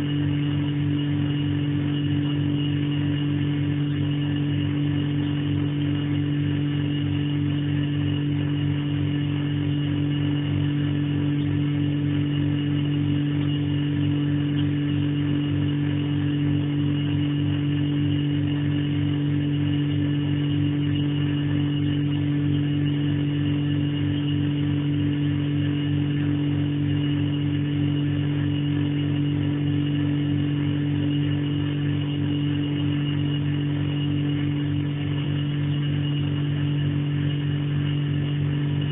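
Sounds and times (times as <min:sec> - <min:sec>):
refrigerator compressor humming: 0:00.0 - 0:38.9.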